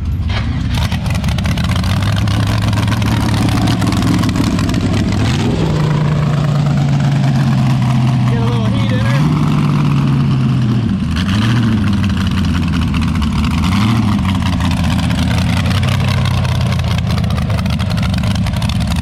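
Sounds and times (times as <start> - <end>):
engine throttle blips: 0.0 - 19.0
drag race car engine idling: 0.1 - 19.0.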